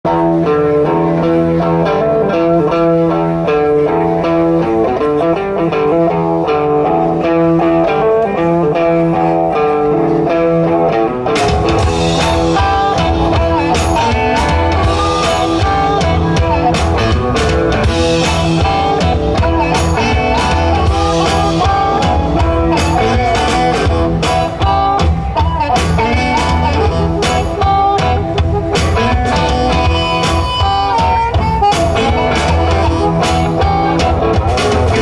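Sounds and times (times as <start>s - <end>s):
bass guitar: 0.0s - 35.0s
drums: 0.0s - 35.0s
electric guitar riff: 0.0s - 35.0s.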